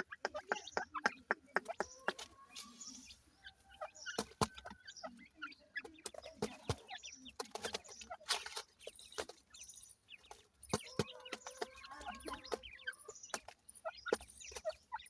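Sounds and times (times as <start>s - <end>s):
chicks chirping: 0.0s - 15.0s.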